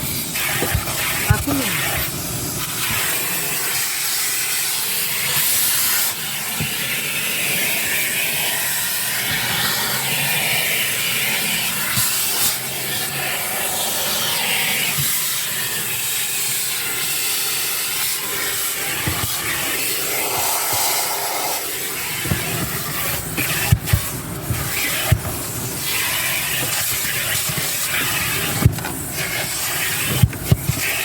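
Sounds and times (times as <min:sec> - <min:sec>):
vacuum hose sucking air: 0:00.0 - 0:31.0.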